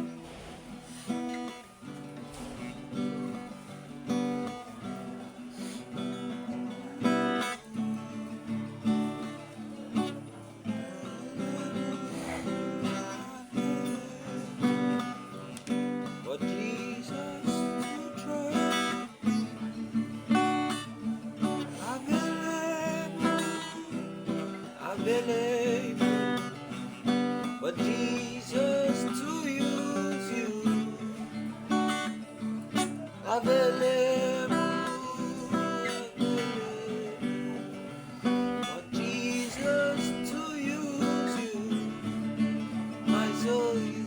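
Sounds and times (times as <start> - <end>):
acoustic guitar strummed and picked: 0.0 - 44.0.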